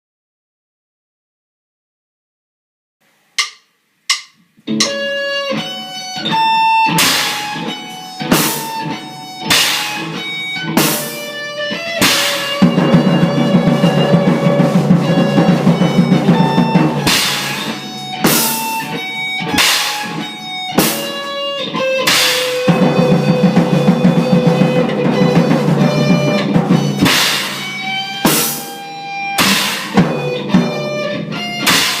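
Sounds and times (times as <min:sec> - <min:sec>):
drum kit with crash accents: 0:03.3 - 0:06.2, 0:06.8 - 0:32.0
electric guitar rock riff: 0:04.6 - 0:32.0.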